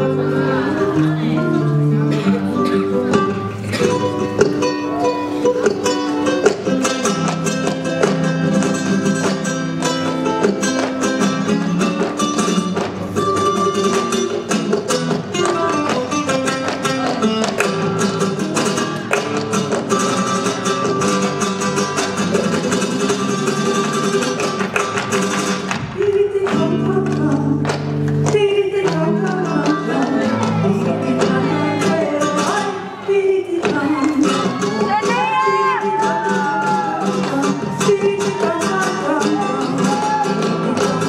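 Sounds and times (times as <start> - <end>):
flamenco acoustic guitar: 0.0 - 41.0.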